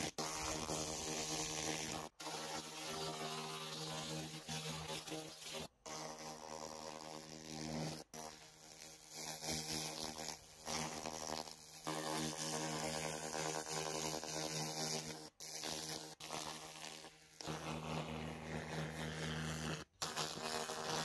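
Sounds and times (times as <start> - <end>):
laser cleaner buzzing and hissing: 0.0 - 21.0.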